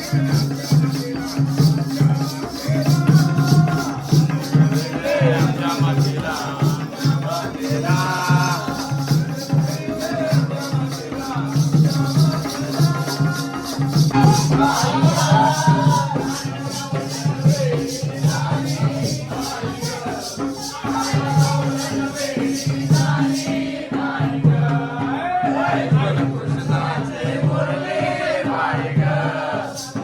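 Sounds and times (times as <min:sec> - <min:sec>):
jingling beat: 0:00.0 - 0:30.0
person singing folk song: 0:00.0 - 0:30.0.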